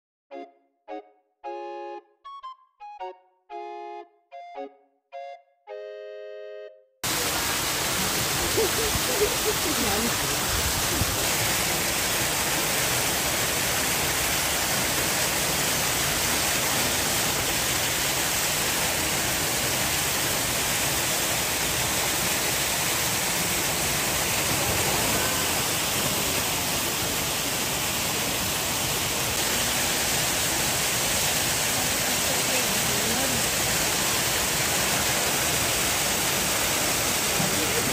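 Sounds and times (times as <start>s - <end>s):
running water rushing: 7.0s - 37.9s.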